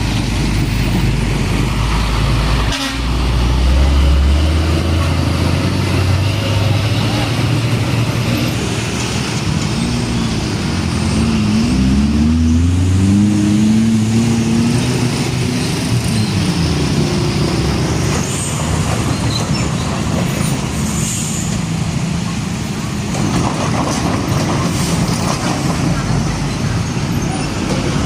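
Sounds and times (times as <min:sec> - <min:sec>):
diesel truck engine: 0:00.0 - 0:23.2
tyre and road noise: 0:00.0 - 0:28.0.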